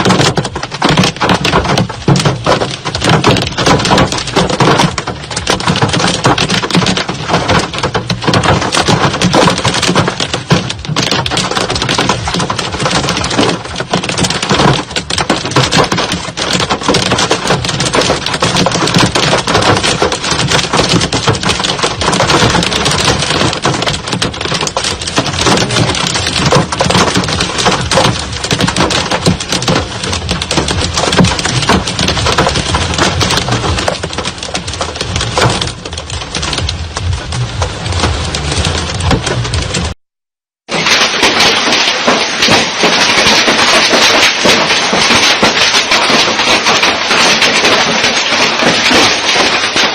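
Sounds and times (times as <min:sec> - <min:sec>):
hailstones pelting down: 0:00.0 - 0:49.9.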